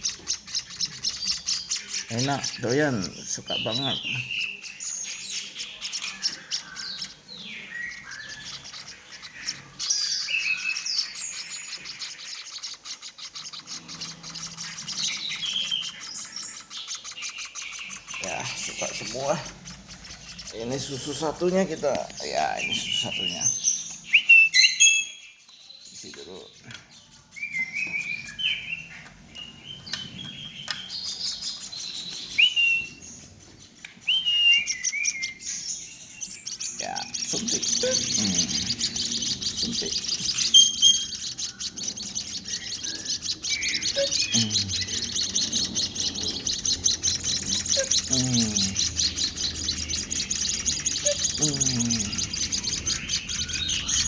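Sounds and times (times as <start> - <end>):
bird chicks chirping: 0.0 - 54.0.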